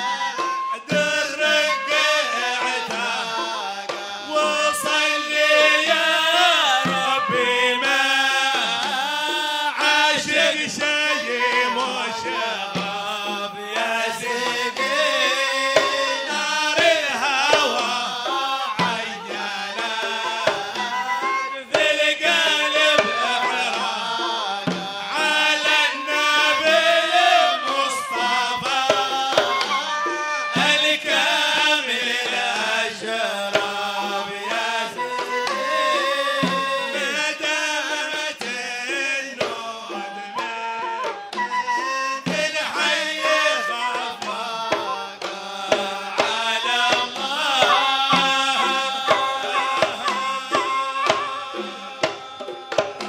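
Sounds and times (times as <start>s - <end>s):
hand drums beating: 0.0s - 53.0s
men singing: 0.0s - 53.0s.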